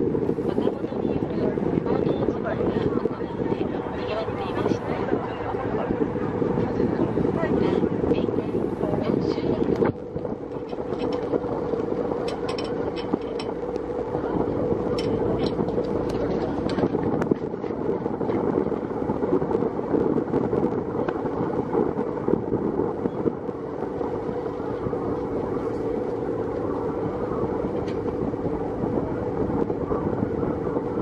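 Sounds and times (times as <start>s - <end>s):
boat engine droning: 0.0s - 31.0s
wind buffeting microphone: 0.0s - 31.0s.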